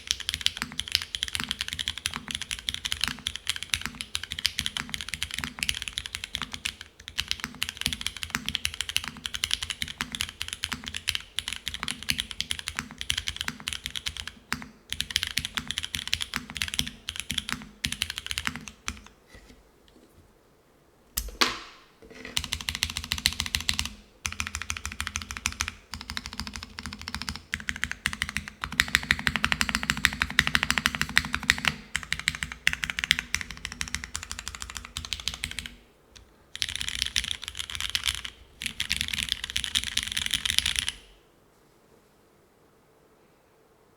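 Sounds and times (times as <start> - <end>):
fast typing on mechanical keyboard: 0.0 - 19.1, 22.4 - 41.1.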